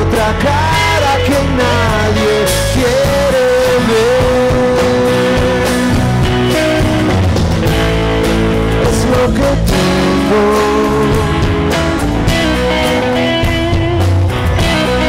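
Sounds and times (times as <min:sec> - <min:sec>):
drum kit: 0:00.0 - 0:15.0
electric bass: 0:00.0 - 0:15.0
electric guitar sustained notes: 0:00.0 - 0:15.0.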